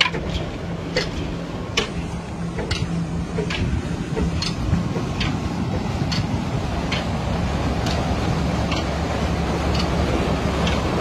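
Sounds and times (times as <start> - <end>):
engine humming with ticks: 0.0 - 11.0.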